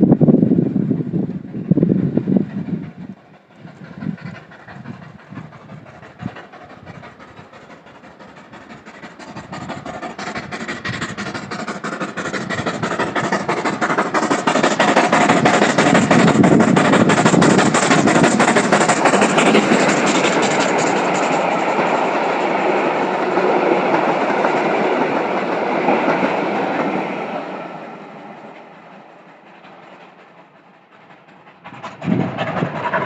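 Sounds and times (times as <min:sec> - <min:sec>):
clickety-clack of train wheels: 0:00.0 - 0:33.0
train running: 0:00.0 - 0:33.0.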